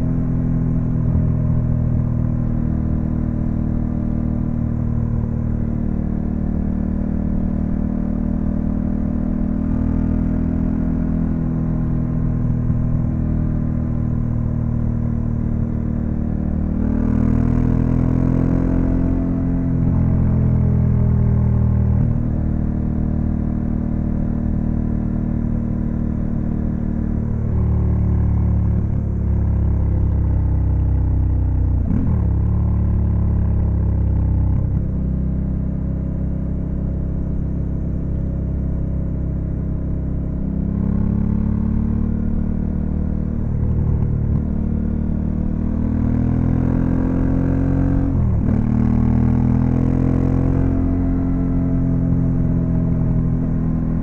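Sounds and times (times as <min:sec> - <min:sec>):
motorcycle engine revving: 0:00.0 - 0:35.1, 0:39.6 - 0:54.0.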